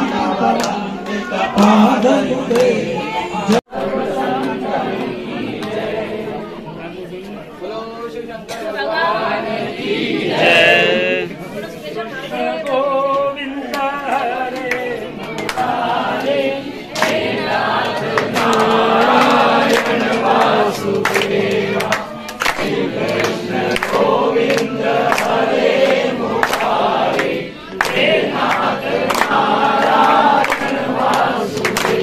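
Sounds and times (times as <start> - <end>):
people clapping: 0.0 - 6.2, 10.3 - 11.4, 12.4 - 32.0
crowd singing in unison: 0.0 - 32.0.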